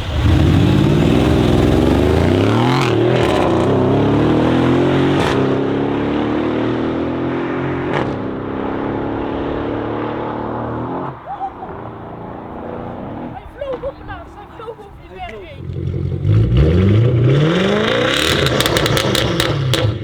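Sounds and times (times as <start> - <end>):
car engine revving hard: 0.0 - 13.4, 15.6 - 20.0.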